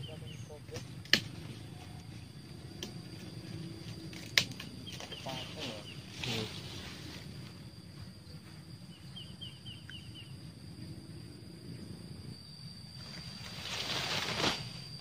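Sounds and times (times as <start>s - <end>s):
rustling hiss: 0.0s - 15.0s
thin high whine: 0.0s - 15.0s
wind rumble: 0.0s - 15.0s.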